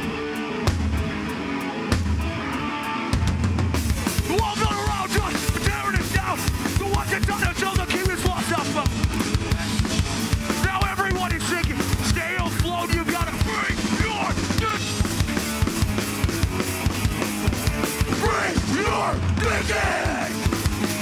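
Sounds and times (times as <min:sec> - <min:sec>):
bass guitar: 0:00.0 - 0:21.0
distorted electric guitars: 0:00.0 - 0:21.0
fast drumming: 0:03.2 - 0:21.0.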